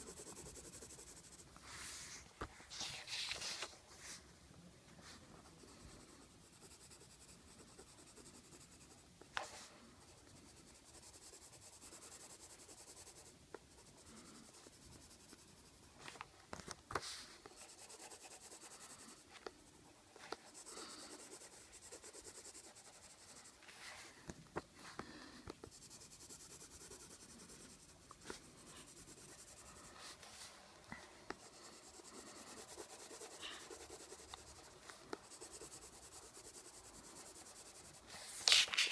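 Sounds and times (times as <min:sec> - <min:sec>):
pencil scratching on paper: 0:00.0 - 0:04.2, 0:05.0 - 0:15.9, 0:17.0 - 0:19.5, 0:20.2 - 0:24.0, 0:24.9 - 0:30.6, 0:31.3 - 0:38.9.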